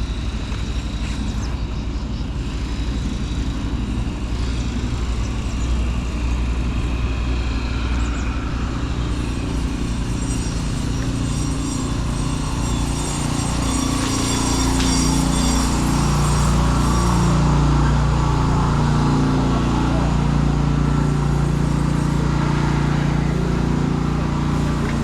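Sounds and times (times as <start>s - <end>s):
low engine drone: 0.0s - 25.0s
wind and road noise: 0.0s - 25.0s.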